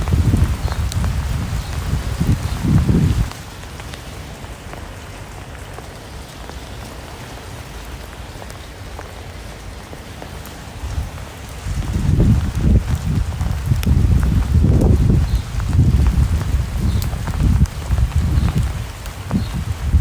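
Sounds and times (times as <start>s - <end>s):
rain drops ticking: 0.0s - 20.0s
steady rain hiss: 0.0s - 20.0s.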